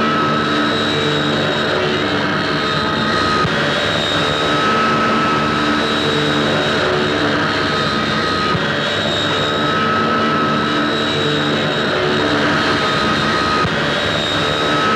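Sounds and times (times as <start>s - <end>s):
propeller aircraft engine droning: 0.0s - 14.9s
thin high whine: 0.0s - 14.9s.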